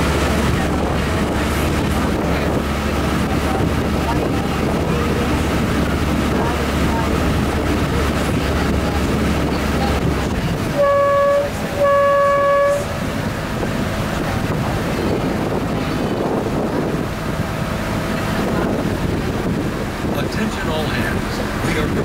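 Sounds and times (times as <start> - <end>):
boat horn blasts: 0.0 - 20.0
boat engine drone: 0.0 - 22.0
water noise: 0.0 - 22.0
wind: 0.0 - 22.0.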